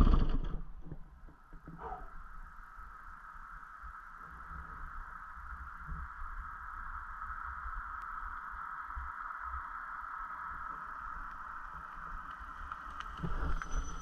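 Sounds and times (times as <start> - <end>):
steady hiss: 1.1 - 14.0.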